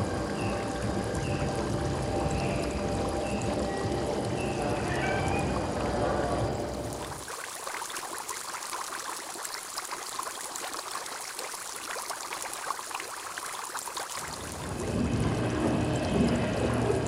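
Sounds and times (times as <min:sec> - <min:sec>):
water bubbling in fish tank: 0:00.0 - 0:17.0.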